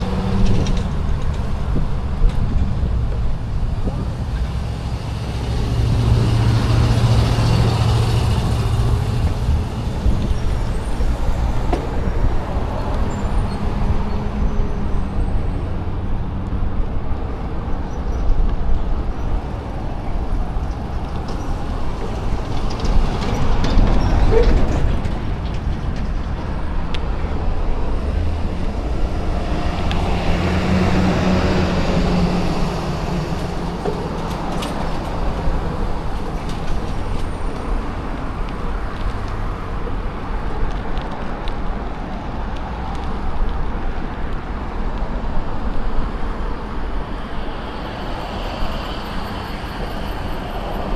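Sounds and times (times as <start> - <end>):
low traffic rumble: 0.0 - 50.9
motor vehicles passing: 0.0 - 50.9.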